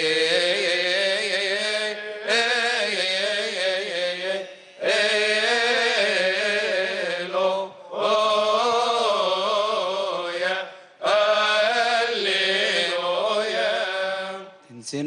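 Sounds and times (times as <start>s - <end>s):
men chanting a hymn in unison: 0.0s - 14.6s.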